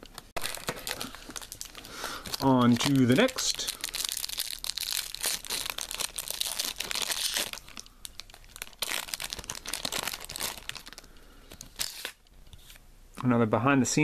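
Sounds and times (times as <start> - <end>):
foil wrapper tearing and crinkling: 0.4 - 12.2.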